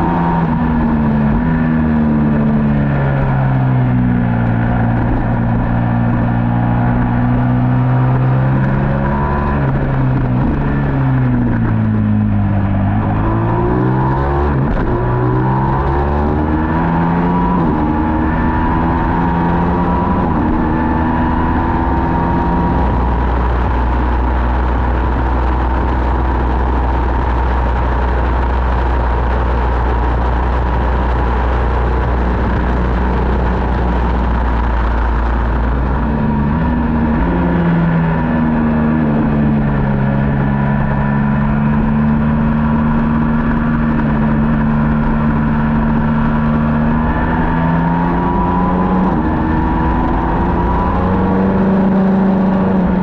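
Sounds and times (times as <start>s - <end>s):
motorcycle engine at high revs: 0.0s - 53.0s
wind rush: 0.0s - 53.0s.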